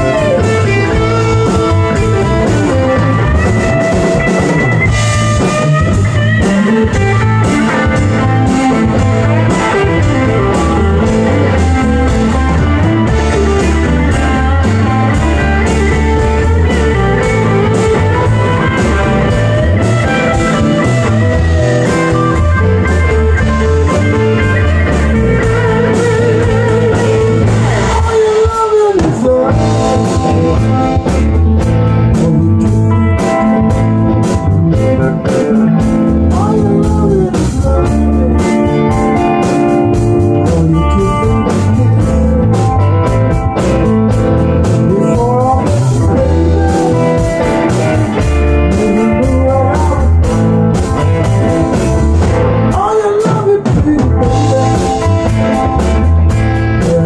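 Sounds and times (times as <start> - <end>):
blues-rock band playing: 0.0 - 57.0
electric guitar lead bent notes: 0.0 - 57.0.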